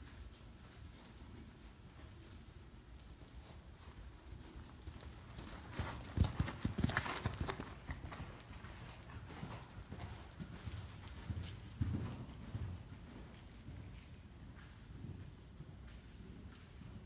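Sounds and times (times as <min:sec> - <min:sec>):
hoofbeats on sand: 0:03.2 - 0:17.0.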